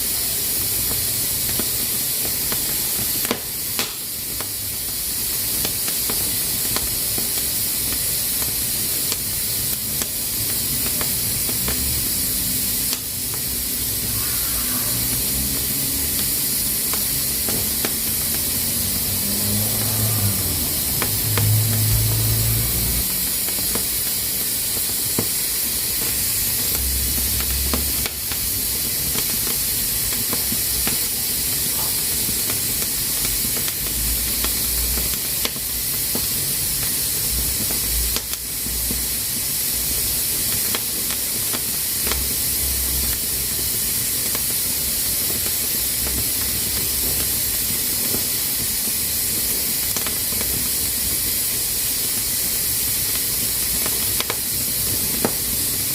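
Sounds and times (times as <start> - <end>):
pressure cooker hissing: 0.0 - 55.9.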